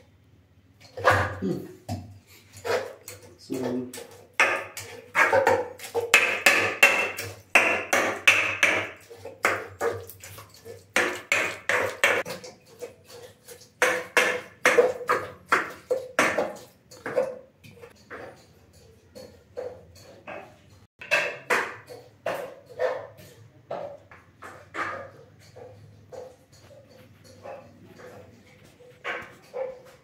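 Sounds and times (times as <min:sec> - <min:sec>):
spatula scraping a pan: 0:02.2 - 0:30.0.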